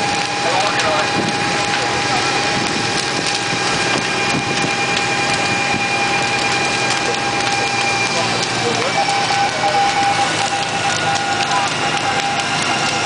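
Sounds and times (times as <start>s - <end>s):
fire engine pump running: 0.0s - 13.0s.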